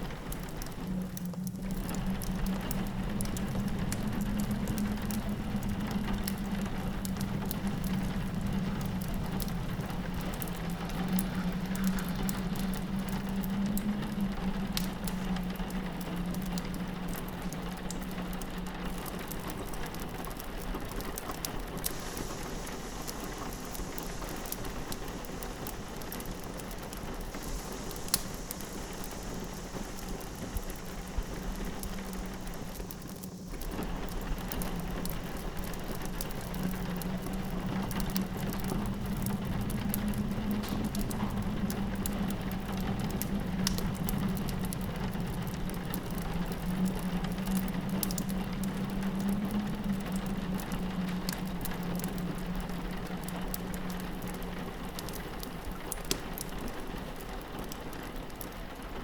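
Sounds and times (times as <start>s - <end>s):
low drone of wind: 0.0s - 59.0s
rain pattering on window: 0.0s - 59.0s
wood fire crackling and popping: 0.0s - 59.0s.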